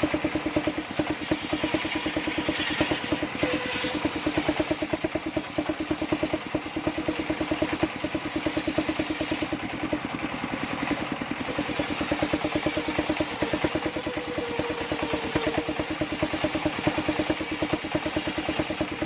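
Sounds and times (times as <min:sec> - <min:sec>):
saw bench engine pulsing: 0:00.0 - 0:19.0.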